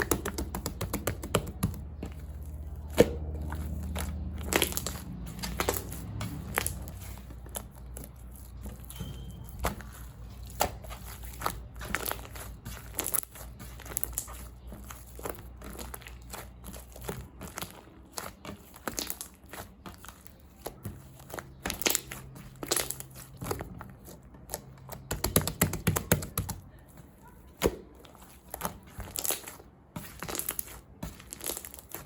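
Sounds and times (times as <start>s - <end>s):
slime squelching and popping: 0.0s - 26.6s, 27.6s - 32.0s.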